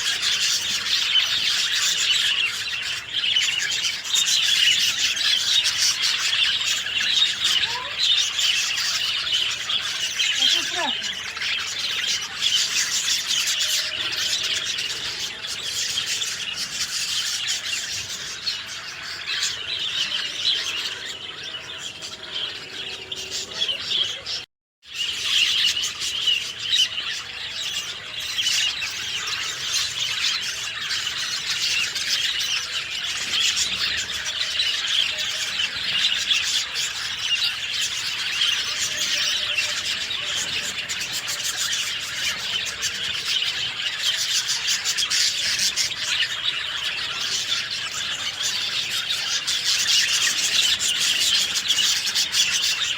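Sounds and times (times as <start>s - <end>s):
many small birds chirping: 0.0s - 52.9s.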